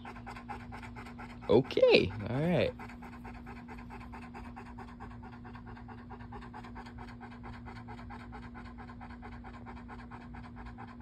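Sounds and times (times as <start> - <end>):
dog panting fast: 0.0 - 11.0
steady low hum: 0.0 - 11.0.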